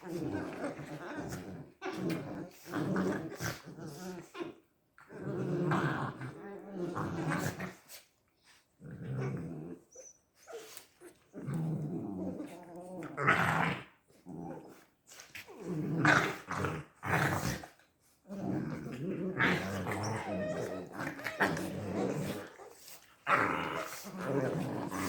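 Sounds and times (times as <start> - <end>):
puppies growling: 0.0 - 25.0.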